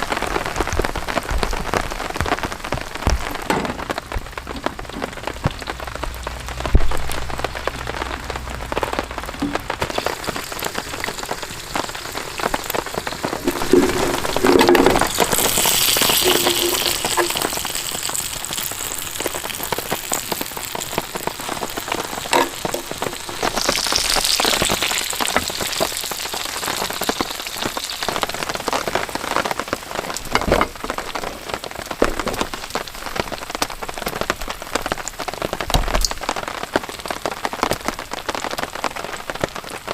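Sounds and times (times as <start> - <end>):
heavy rain drops striking a surface: 0.0 - 39.9.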